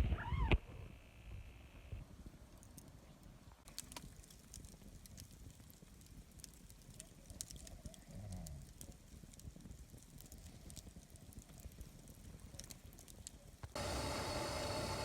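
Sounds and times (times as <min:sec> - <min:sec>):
campfire crackling faintly: 0:00.0 - 0:15.0.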